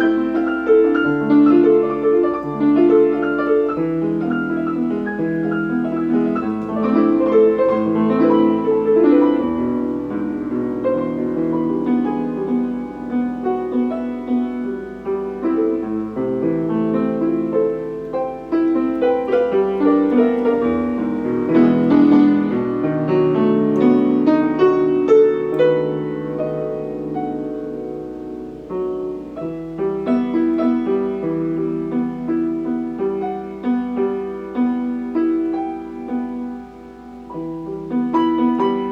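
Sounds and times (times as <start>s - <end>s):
piano playing flowing piece: 0.0s - 38.9s.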